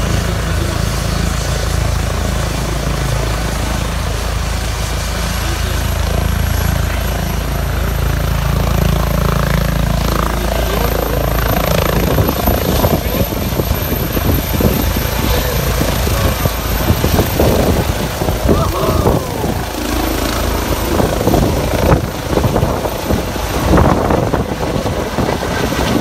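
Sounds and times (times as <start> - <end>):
helicopter rotor beat: 0.0 - 26.0.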